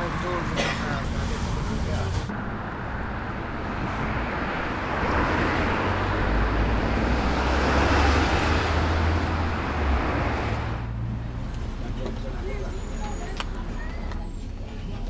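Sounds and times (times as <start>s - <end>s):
bus engine rumble: 0.0s - 15.0s
road noise: 0.0s - 15.0s.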